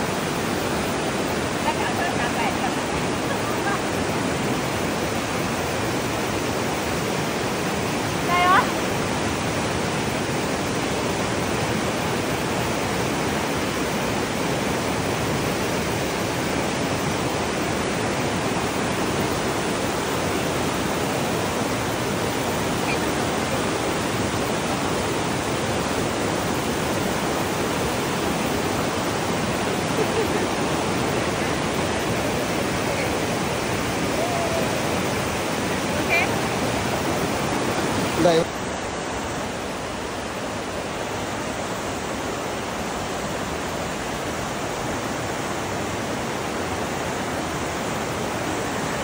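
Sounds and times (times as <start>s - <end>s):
water rushing over rocks: 0.0s - 49.0s.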